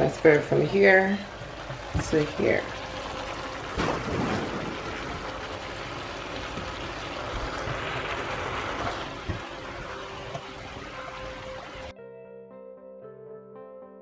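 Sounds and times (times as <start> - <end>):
chicken sizzling in a frying pan: 0.0 - 11.9.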